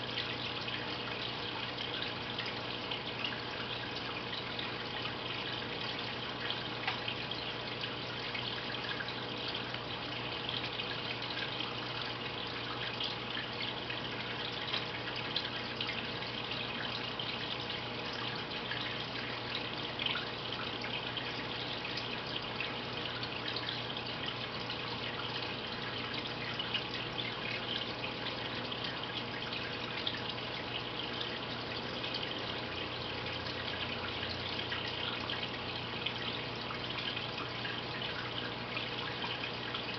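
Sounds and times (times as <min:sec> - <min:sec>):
water trickling into tank: 0:00.0 - 0:39.9.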